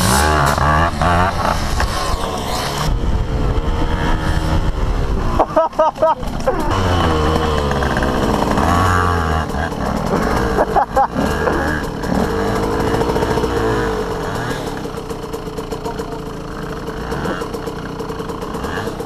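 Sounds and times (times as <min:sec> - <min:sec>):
dirt bike engines: 0:00.0 - 0:19.0.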